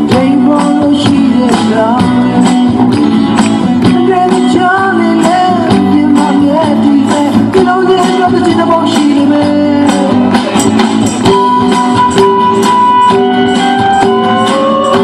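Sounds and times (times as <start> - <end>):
music with steady beat: 0.0 - 15.0.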